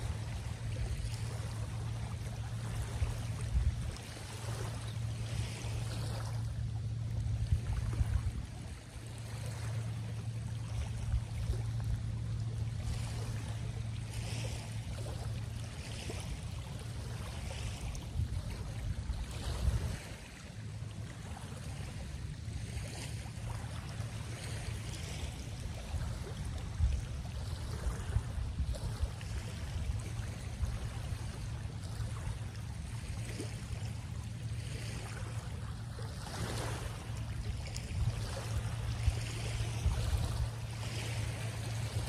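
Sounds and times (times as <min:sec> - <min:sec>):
steady low hum: 0:00.0 - 0:42.0
water lapping and splashing: 0:00.0 - 0:42.0.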